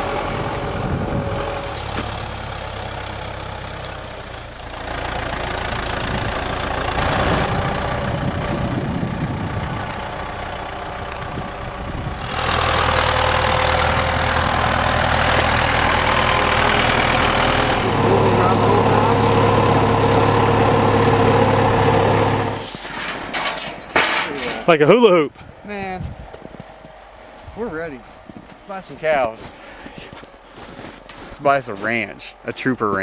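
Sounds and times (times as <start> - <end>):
vehicle engine running: 0.0 - 24.7, 25.4 - 33.0.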